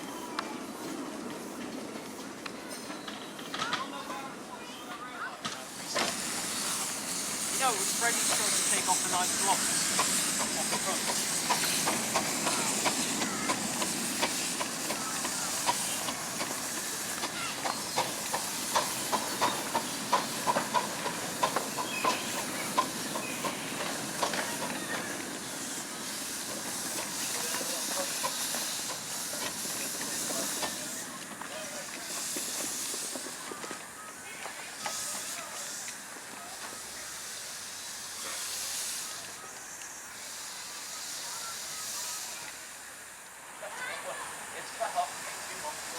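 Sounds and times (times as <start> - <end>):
steam locomotive hissing: 0.0 - 45.9.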